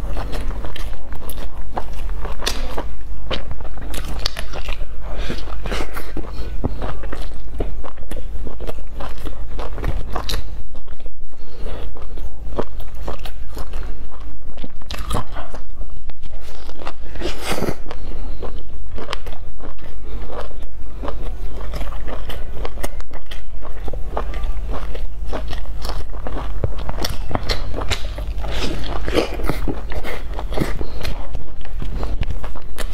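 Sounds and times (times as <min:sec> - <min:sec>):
chewing crusty bread: 0:00.0 - 0:32.9.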